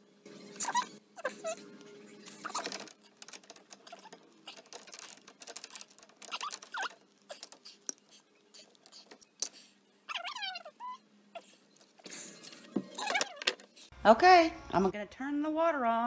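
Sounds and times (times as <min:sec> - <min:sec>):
short squeaks: 0:00.5 - 0:13.9.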